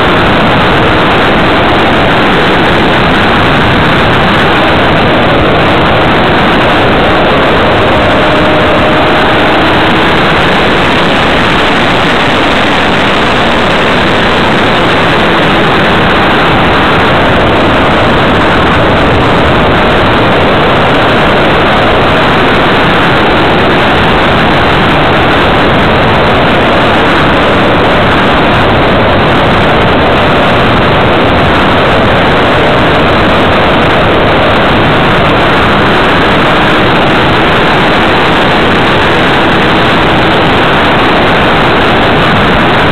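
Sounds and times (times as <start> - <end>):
air rushing over microphone: 0.0 - 42.9.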